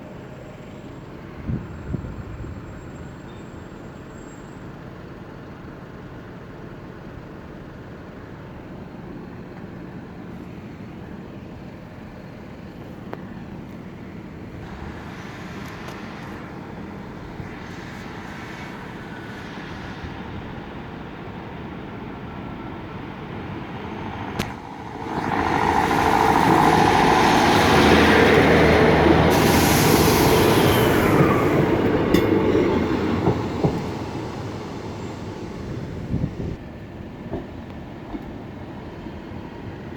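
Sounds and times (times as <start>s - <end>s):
train passing: 4.7s - 39.9s.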